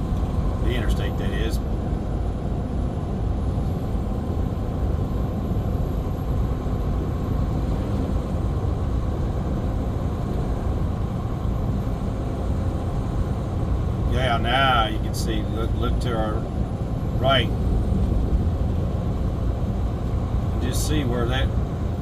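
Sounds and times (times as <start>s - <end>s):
truck engine and tyre rumble: 0.0s - 22.0s.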